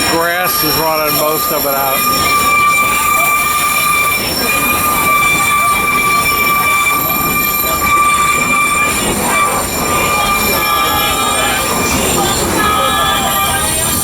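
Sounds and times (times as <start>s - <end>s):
high-pitched wheel squeal: 0.0s - 14.0s
train cars rumbling on track: 0.0s - 14.0s.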